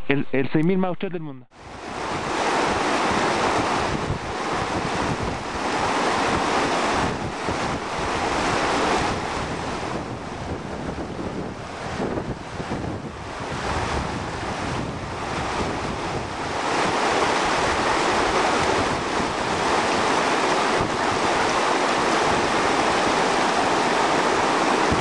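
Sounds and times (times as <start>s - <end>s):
stream rushing over rocks: 1.6s - 11.0s, 13.4s - 25.0s
wind buffeting microphone: 1.6s - 25.0s.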